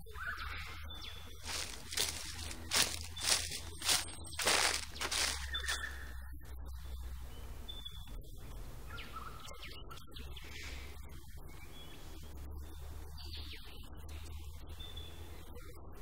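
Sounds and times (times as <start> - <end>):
birds chirping and whistling: 0.0 - 15.9.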